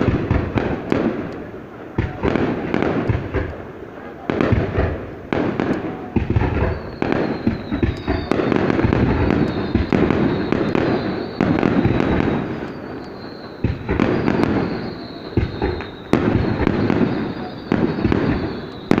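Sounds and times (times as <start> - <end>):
fireworks booming and crackling: 0.0 - 19.0.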